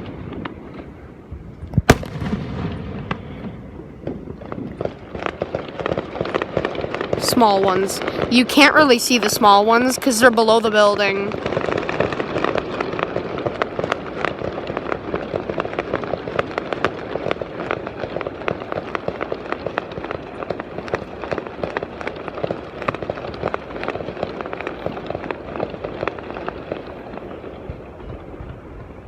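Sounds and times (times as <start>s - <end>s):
fireworks crackling pops: 0.0s - 29.0s.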